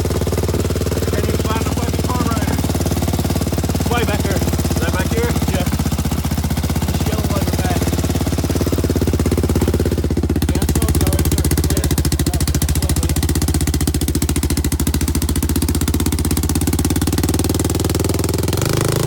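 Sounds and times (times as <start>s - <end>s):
quad engine running: 0.0s - 19.0s.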